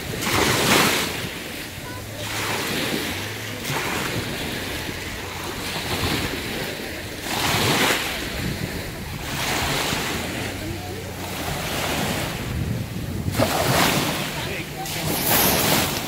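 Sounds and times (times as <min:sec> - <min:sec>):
lake waves washing onto shore: 0:00.0 - 0:16.0
wind rumbling on microphone: 0:00.0 - 0:16.0.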